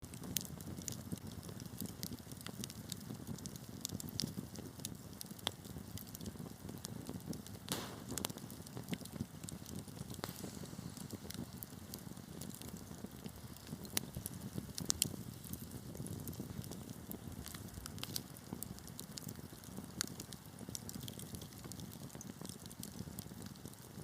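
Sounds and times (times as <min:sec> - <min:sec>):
wood fire crackling: 0:00.0 - 0:24.0
burning logs rumbling: 0:00.1 - 0:24.0
fire hissing: 0:00.2 - 0:23.8.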